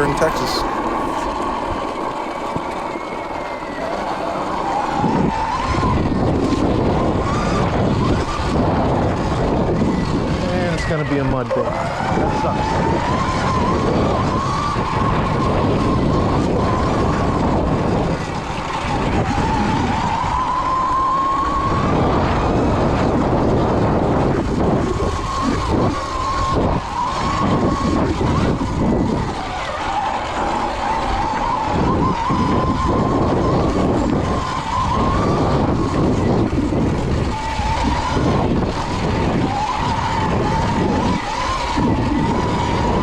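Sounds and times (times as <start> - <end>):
electric motor whining: 0.0 - 43.0.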